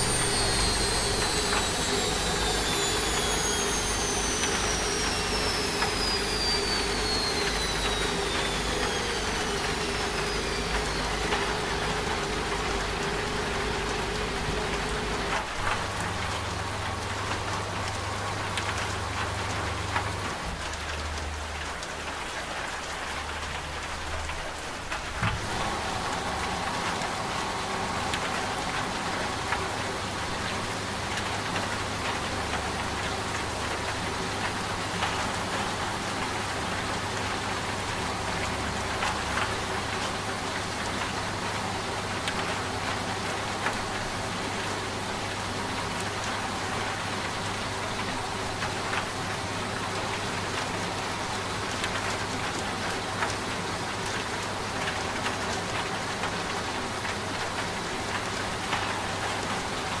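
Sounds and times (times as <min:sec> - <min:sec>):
steady rain: 0:00.0 - 1:00.0
washing machine humming: 0:00.0 - 1:00.0.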